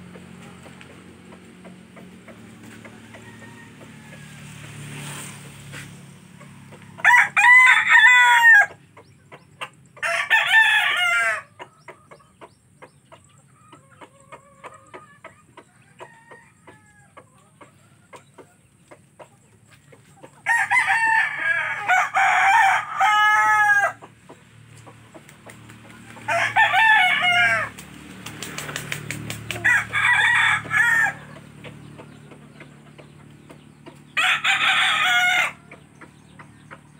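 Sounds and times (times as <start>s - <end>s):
roosters crowing: 0.0s - 8.9s, 9.7s - 12.2s, 13.4s - 18.8s, 20.2s - 36.9s.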